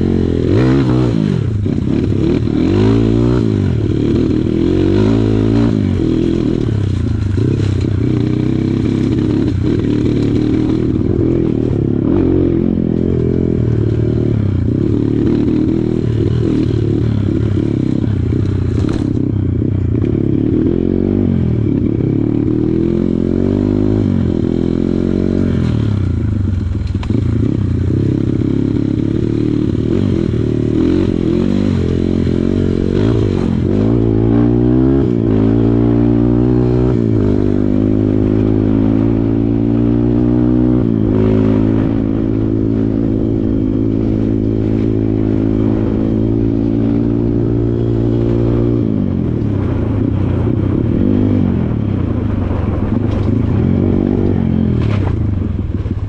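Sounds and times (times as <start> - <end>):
dirt bike engine revving: 0.0 - 55.2.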